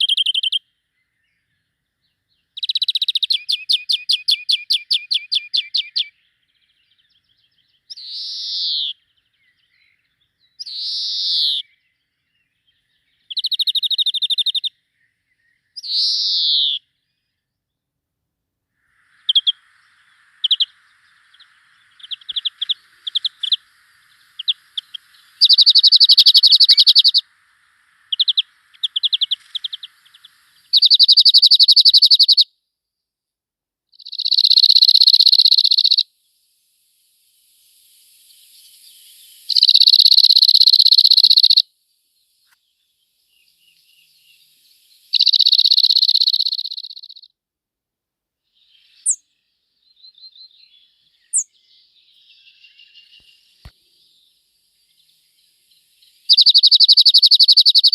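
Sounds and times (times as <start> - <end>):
songbird trilling: 0.0 - 1.6, 2.4 - 17.2, 18.8 - 32.5, 34.0 - 36.1, 38.0 - 47.3, 48.6 - 57.9
bird chirps: 0.0 - 17.8, 18.7 - 32.6, 33.9 - 47.4, 48.4 - 57.9.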